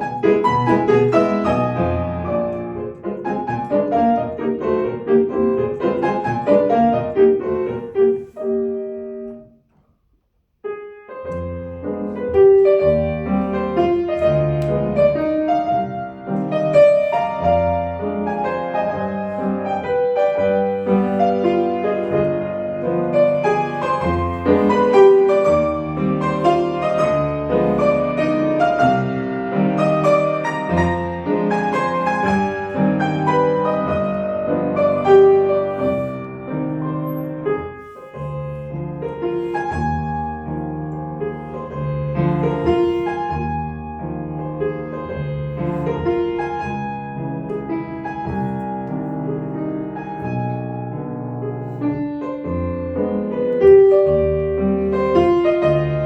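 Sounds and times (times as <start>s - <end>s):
solo piano classical music: 0.0s - 56.0s.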